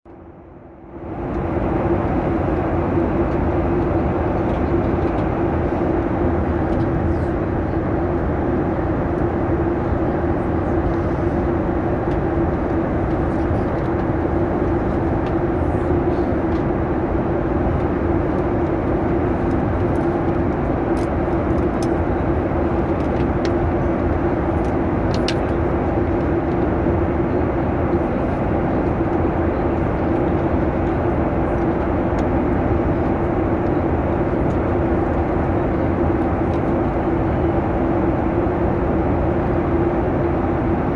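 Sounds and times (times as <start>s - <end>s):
constant low hum: 0.1s - 40.9s.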